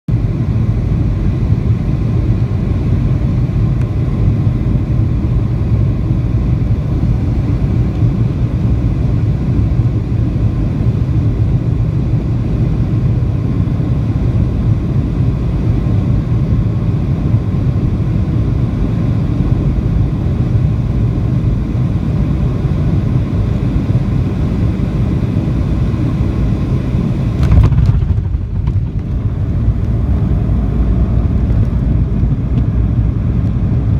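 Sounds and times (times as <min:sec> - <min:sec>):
jet engines and rushing air: 0:00.1 - 0:33.9.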